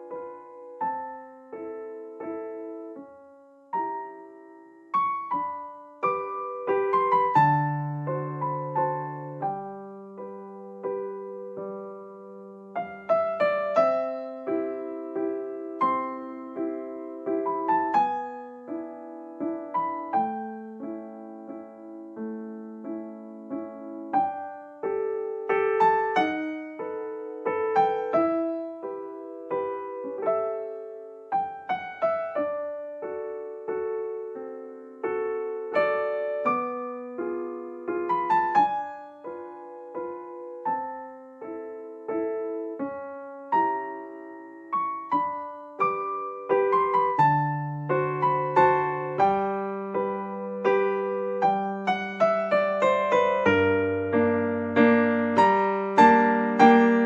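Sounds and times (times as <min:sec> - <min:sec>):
solo piano melody: 0:00.0 - 0:57.0.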